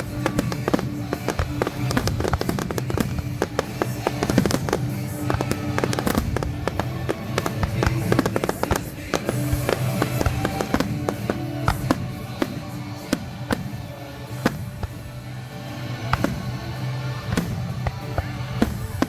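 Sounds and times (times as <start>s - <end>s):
fireworks bangs and pops: 0.0s - 19.0s
music playing: 0.0s - 19.0s.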